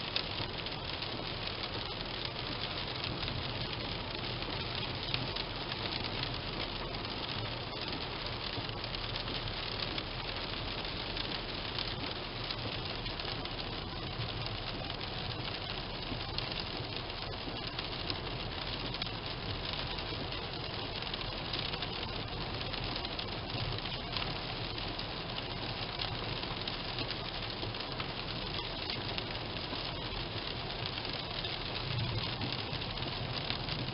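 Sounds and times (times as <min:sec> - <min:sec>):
low car hum: 0:00.0 - 0:33.9
rain pattering on a car: 0:00.0 - 0:33.9.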